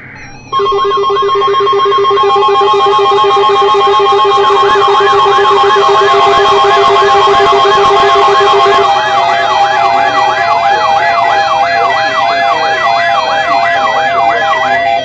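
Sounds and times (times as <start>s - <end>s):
electronic siren tone sweeping: 0.0s - 15.0s
pulsing low tone: 0.0s - 15.0s
steady alert tones: 0.0s - 15.0s.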